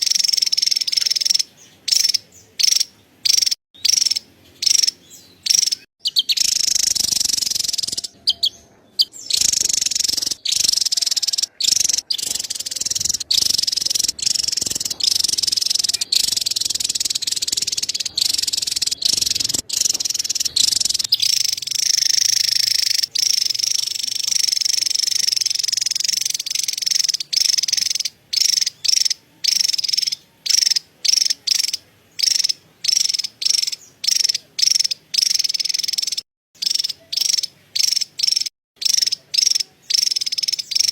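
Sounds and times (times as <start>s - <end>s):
bird high-pitched chattering call: 0.0s - 40.9s.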